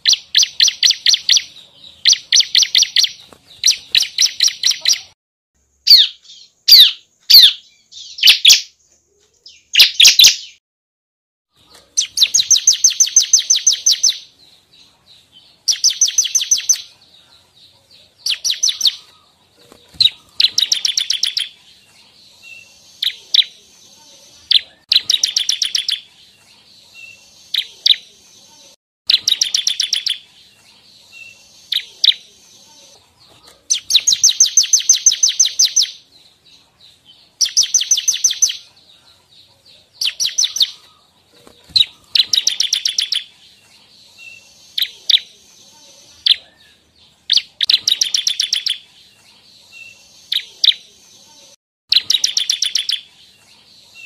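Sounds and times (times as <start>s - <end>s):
bird singing rapid chipping notes: 0.0s - 10.6s, 11.6s - 54.0s.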